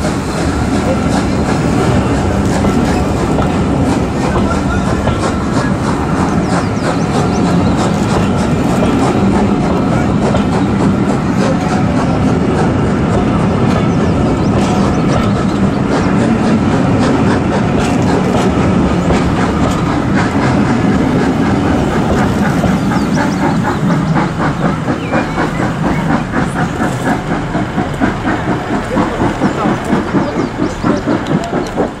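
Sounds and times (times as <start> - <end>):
clickety-clack over rail joints: 0.0 - 32.0
train wheels rumbling on track: 0.0 - 32.0.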